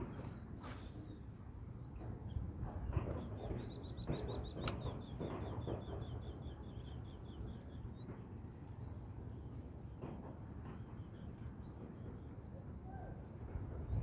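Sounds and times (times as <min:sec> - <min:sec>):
wind rumble on microphone: 0:00.0 - 0:10.1, 0:12.8 - 0:14.0.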